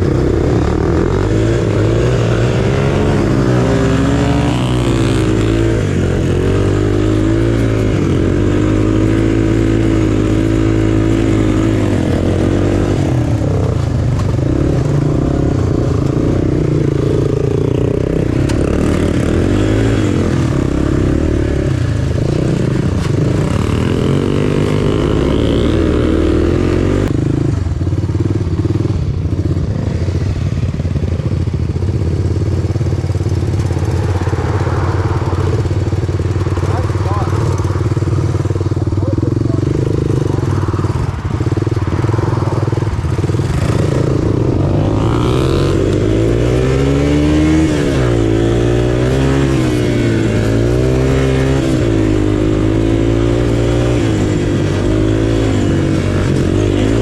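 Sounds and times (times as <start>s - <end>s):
small off-road engine revving: 0.0s - 27.8s, 32.7s - 57.0s.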